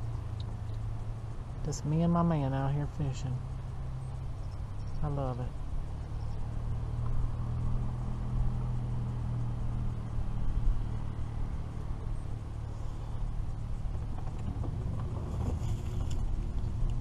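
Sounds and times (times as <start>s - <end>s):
boat motor humming: 0.0s - 17.0s
wind rumbling on microphone: 0.0s - 17.0s.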